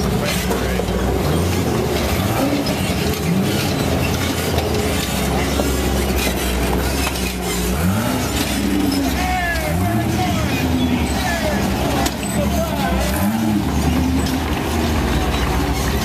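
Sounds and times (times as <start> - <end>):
car engine revving: 0.0 - 16.0
knocks and clatter: 0.0 - 16.0.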